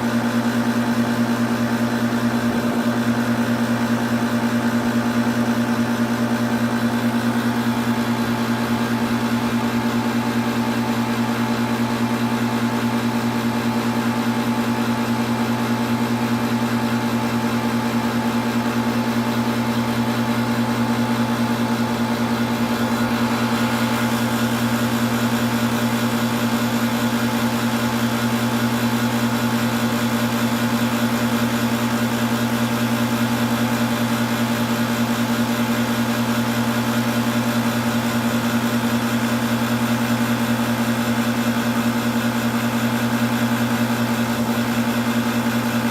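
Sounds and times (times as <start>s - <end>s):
air conditioning compressor humming: 0.0s - 45.9s.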